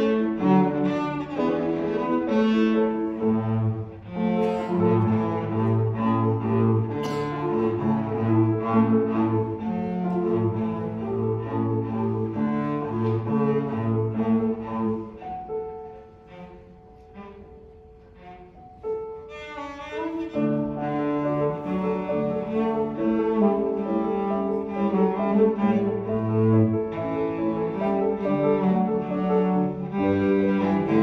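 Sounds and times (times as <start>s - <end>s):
cello playing classical piece: 0.0s - 31.0s
piano accompaniment: 0.0s - 31.0s.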